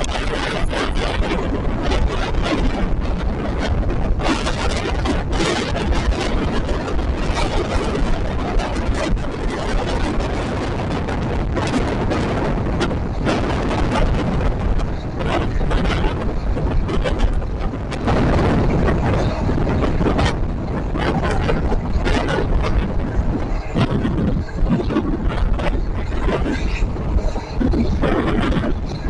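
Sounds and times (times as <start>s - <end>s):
rushing wind: 0.0s - 29.0s
train wheels rumbling on rail: 0.0s - 29.0s.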